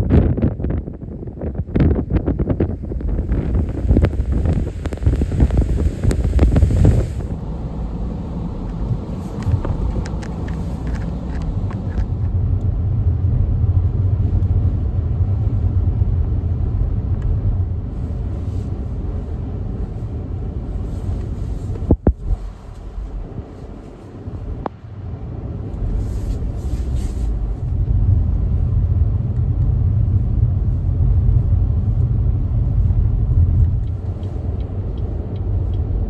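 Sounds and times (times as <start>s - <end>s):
low rumble: 0.0s - 36.0s
wind buffeting microphone: 0.0s - 36.0s.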